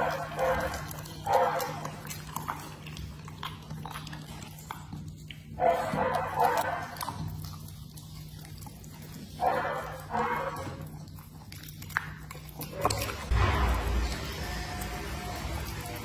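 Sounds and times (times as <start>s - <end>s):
dog chewing wetly: 0.0s - 16.0s.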